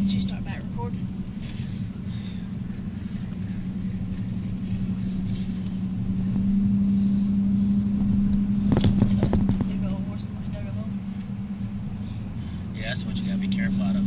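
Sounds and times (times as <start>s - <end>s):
vehicle engine drone from inside: 0.0s - 14.0s.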